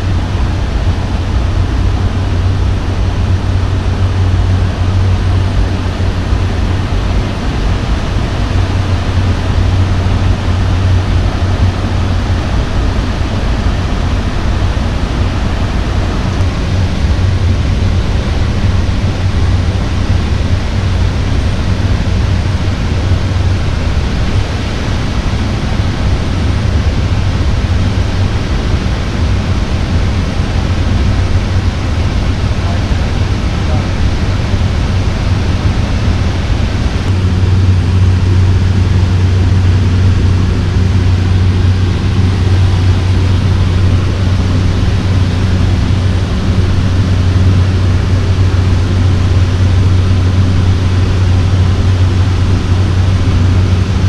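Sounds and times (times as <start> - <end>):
turboprop engine drone in cockpit: 0.0 - 54.0.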